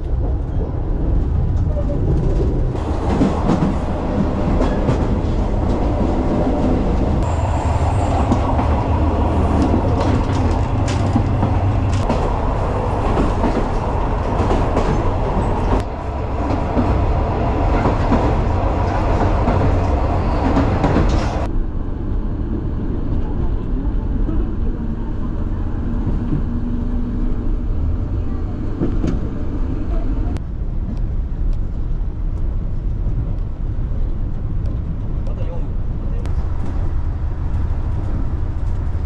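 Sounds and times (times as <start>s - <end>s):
train rumble: 0.0s - 39.0s.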